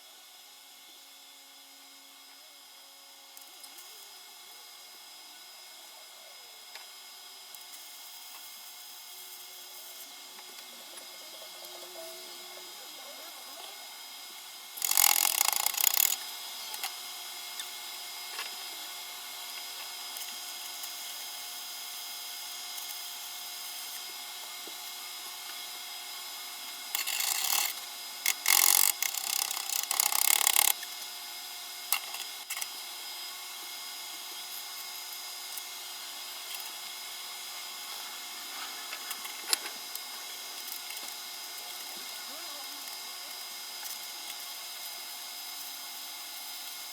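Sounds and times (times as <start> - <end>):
harsh raspy metalworking noise: 7.6 - 46.9.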